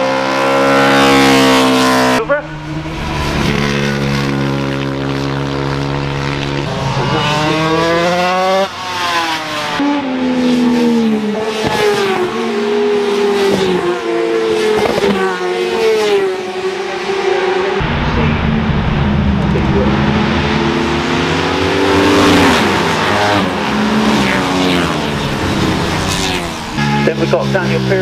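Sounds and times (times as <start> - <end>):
racing motorcycle engines: 0.0 - 28.0.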